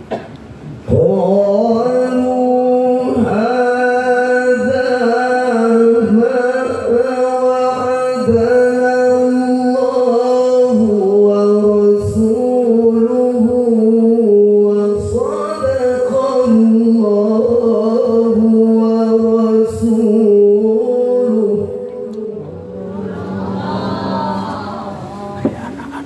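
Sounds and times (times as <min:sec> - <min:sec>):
man reciting melodically: 0:00.7 - 0:25.8.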